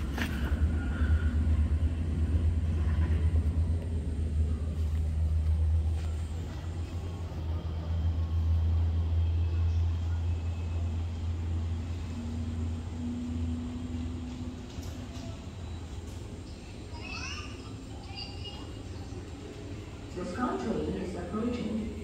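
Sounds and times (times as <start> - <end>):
people-mover train rumbling: 0.0 - 22.0.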